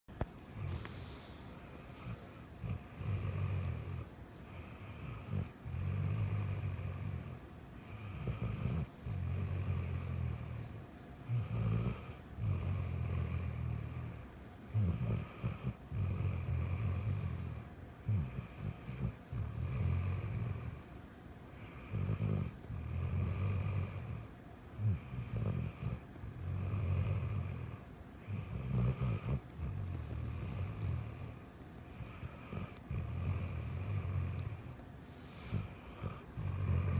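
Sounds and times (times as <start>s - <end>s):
dog snoring: 0.3s - 36.9s.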